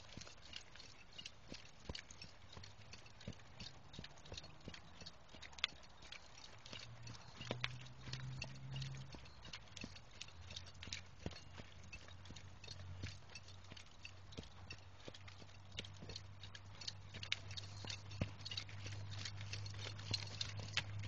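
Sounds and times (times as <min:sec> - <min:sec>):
hoofbeats on dirt: 0:00.0 - 0:21.0.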